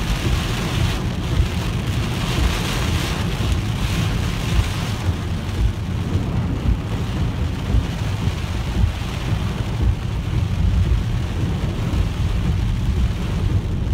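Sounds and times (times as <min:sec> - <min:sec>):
heavy rain on car: 0:00.0 - 0:13.9
low rumble: 0:00.0 - 0:13.9
tyres running through water: 0:00.0 - 0:13.9.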